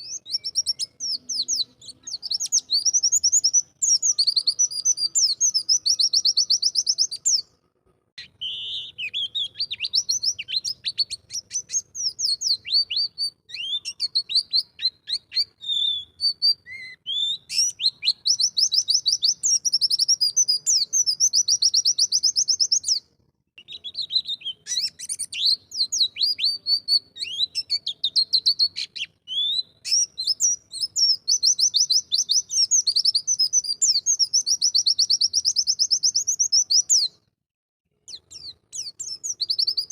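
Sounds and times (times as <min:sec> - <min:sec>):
bird singing high trills: 0:00.0 - 0:07.6, 0:08.2 - 0:37.3, 0:38.0 - 0:39.9.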